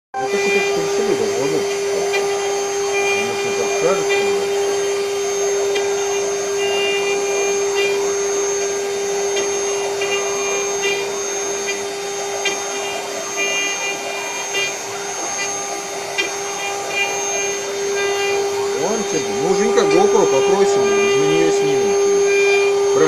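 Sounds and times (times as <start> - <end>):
short high-pitched tones: 0.2 - 23.0
spindle motors whining: 0.2 - 23.0.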